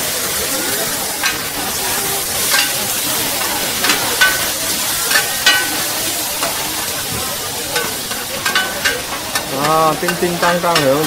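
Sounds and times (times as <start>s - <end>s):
food sizzling in a wok: 0.0s - 11.0s
metal utensil clinking on wok: 0.3s - 11.0s.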